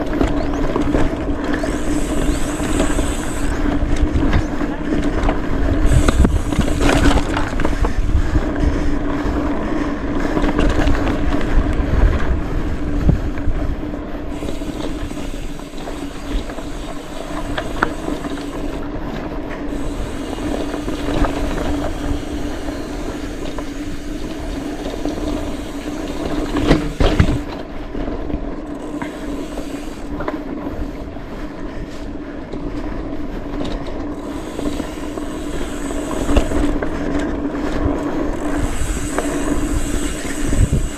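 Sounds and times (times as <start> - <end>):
steady buzzing tone: 0.0 - 4.8, 5.6 - 10.1, 13.0 - 31.4, 34.0 - 40.9
bike rattling over dirt trail: 0.0 - 40.9.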